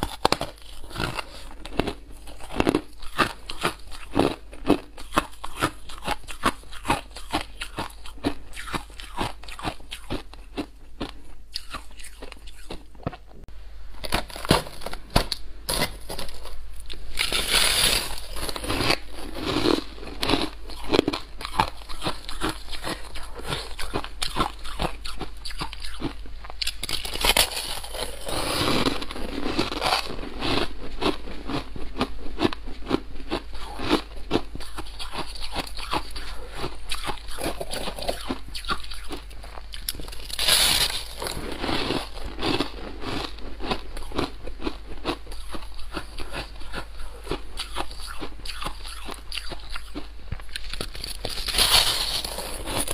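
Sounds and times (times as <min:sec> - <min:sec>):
ice being chewed and crunched: 0:00.0 - 0:13.2, 0:15.7 - 0:52.9.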